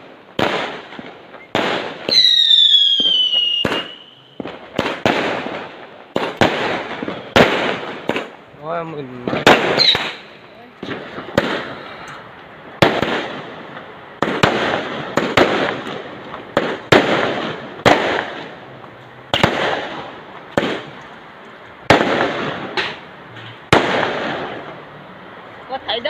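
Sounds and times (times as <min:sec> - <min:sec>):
fireworks bangs with crackling: 0:00.0 - 0:26.0.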